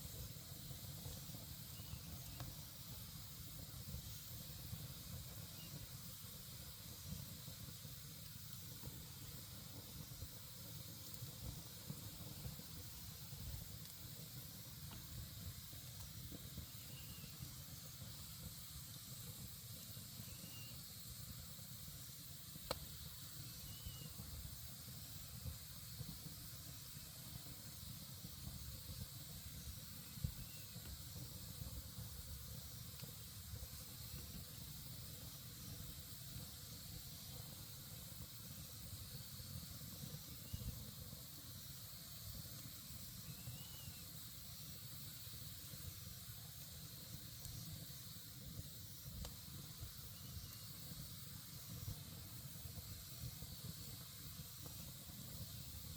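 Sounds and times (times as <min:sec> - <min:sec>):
campfire crackling and hissing: 0:00.0 - 0:55.9
sharp fire pops: 0:00.0 - 0:55.9.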